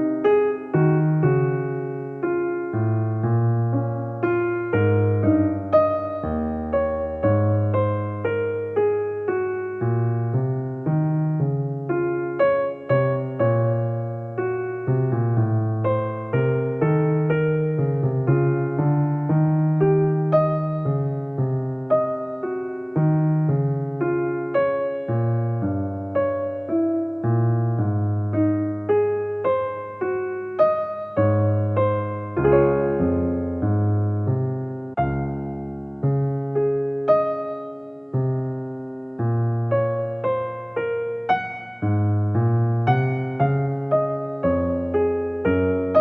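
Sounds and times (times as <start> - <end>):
electric piano music: 0.0 - 46.0.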